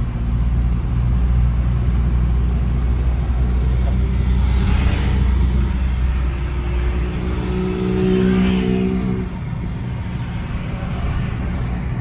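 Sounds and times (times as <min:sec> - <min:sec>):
road rumble: 0:00.0 - 0:12.0.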